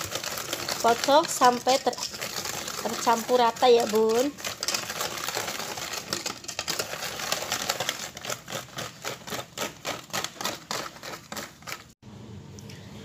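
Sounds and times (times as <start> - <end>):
whisk clicking against metal bowl: 0.0 - 11.8.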